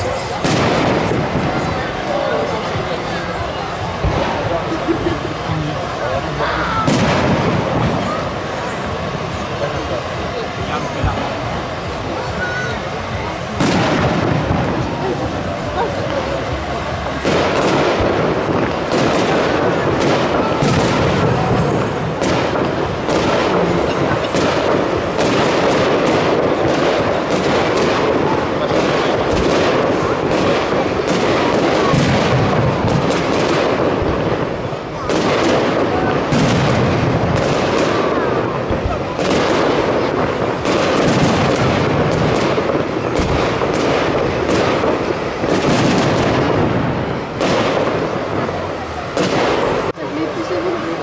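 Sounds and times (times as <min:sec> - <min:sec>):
fireworks bangs: 0:00.0 - 0:51.0
rumbling echoing explosions: 0:00.0 - 0:51.0.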